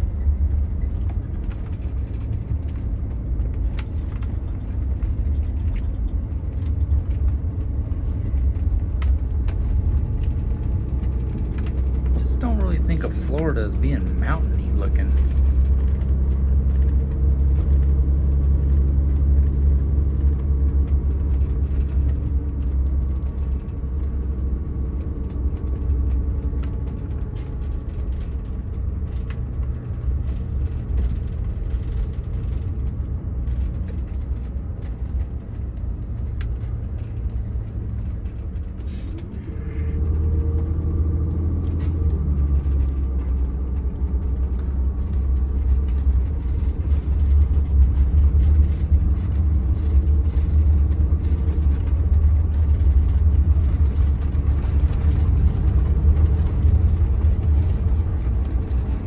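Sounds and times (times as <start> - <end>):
engine and road rumble: 0.0 - 59.0
light rattles and clicks: 0.0 - 59.0.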